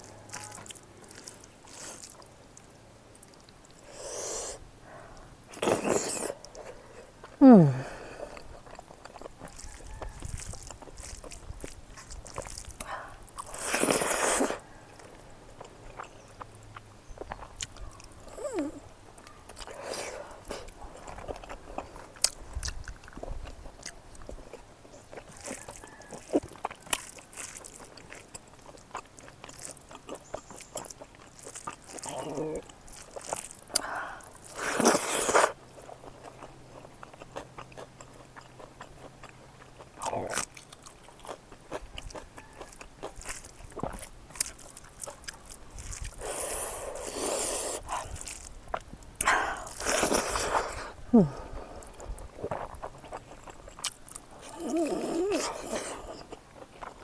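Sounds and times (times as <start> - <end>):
mouth clicks and crunches: 0.0 - 57.0
person biting and chewing: 5.5 - 57.0.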